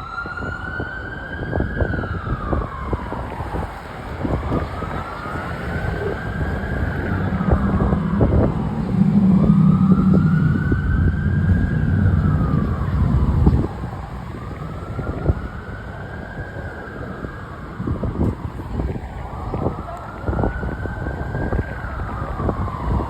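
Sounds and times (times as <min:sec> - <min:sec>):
fire truck siren wailing: 0:00.0 - 0:23.0
truck engine rumble: 0:00.0 - 0:23.0.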